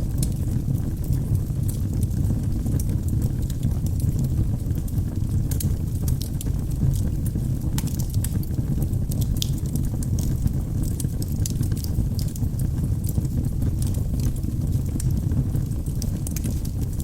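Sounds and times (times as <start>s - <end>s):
logs crackling and popping in fire: 0.0s - 17.0s
low rumble of fire: 0.0s - 17.0s.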